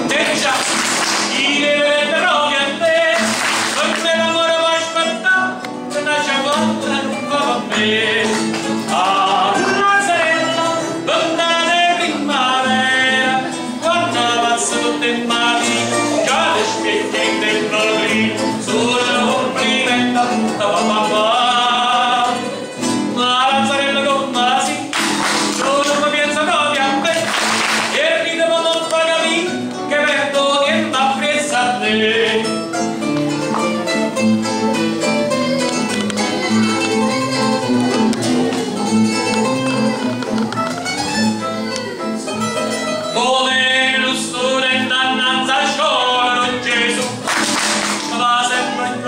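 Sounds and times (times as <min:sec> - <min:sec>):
man singing: 0:00.0 - 0:33.8, 0:41.4 - 0:49.0
acoustic guitar: 0:00.0 - 0:49.0
plucked mandolin: 0:00.0 - 0:49.0.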